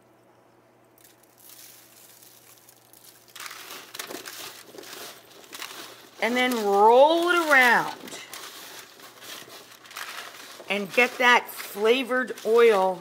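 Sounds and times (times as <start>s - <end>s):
foil crinkling: 1.0s - 13.0s.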